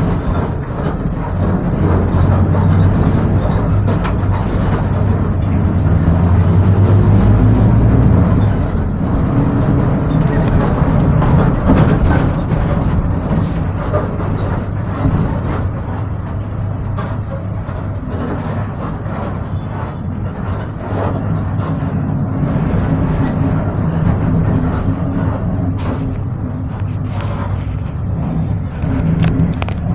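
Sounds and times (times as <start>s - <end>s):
bus body rattles and knocks: 0.0s - 29.9s
bus engine drone: 0.0s - 29.9s.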